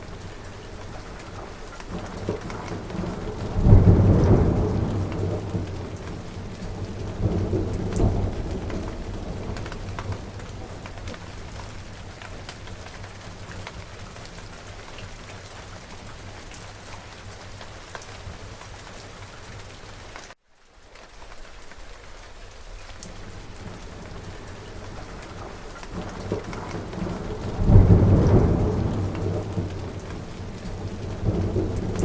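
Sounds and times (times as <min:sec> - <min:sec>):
thunder rumbling: 0:00.0 - 0:18.6, 0:23.1 - 0:32.0
rain drops pattering: 0:00.0 - 0:32.0.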